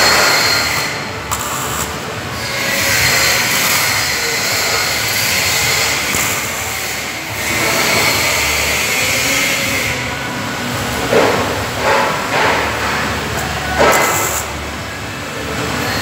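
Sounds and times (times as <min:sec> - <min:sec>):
welding arc crackling hiss: 0:00.0 - 0:10.1, 0:11.2 - 0:14.6.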